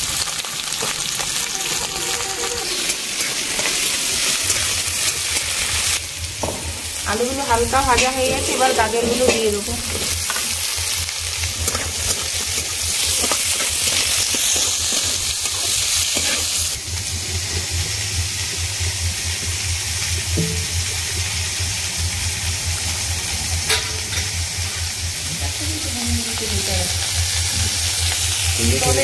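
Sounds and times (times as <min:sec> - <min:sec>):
vegetables sizzling in oil: 0:00.0 - 0:29.0
low pulsing hum: 0:03.8 - 0:29.0.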